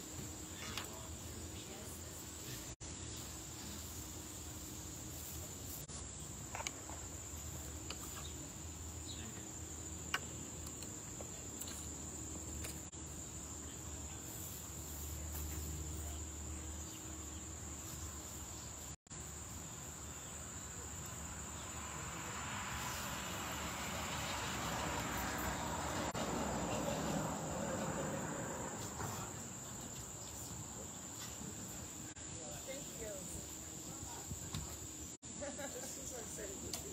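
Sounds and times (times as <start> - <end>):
insect chorus: 0.0 - 36.9.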